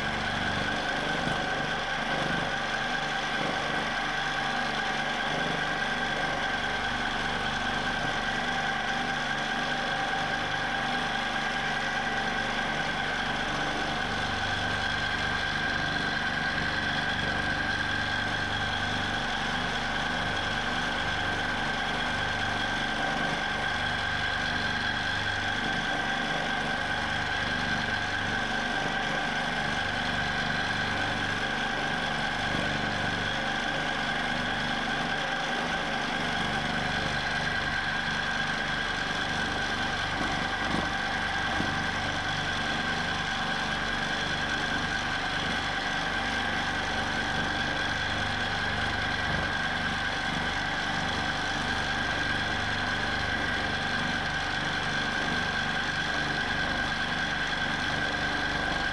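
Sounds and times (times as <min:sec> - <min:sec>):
quilting machine motor whine: 0:00.0 - 0:58.9.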